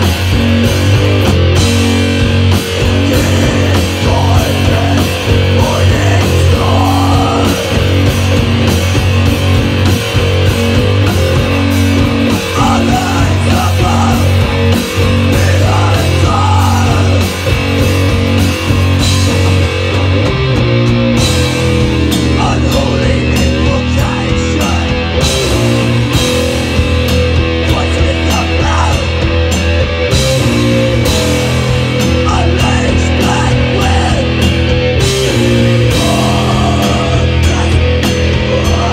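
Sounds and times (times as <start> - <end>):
metal band playing live: 0.0 - 38.9.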